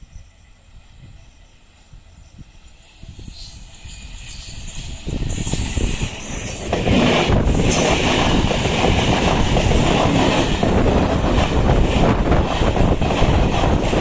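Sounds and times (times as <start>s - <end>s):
train wheels rumbling over rails: 0.0s - 14.0s.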